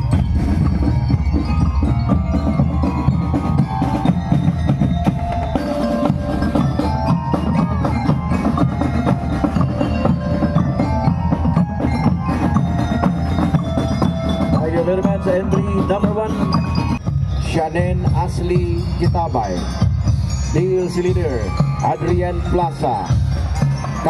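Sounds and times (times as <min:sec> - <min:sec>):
bass drum beats: 0:00.0 - 0:24.0
drum and lyre band march: 0:00.0 - 0:24.0.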